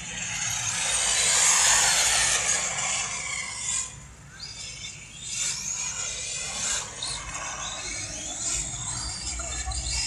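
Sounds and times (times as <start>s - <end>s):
rc car motor rasping: 0.0s - 10.0s.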